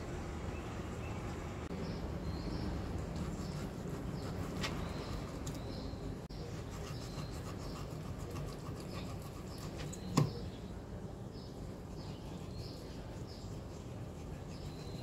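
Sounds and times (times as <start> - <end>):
birds chirping faintly: 0.0 - 15.0
low background noise: 0.0 - 15.0.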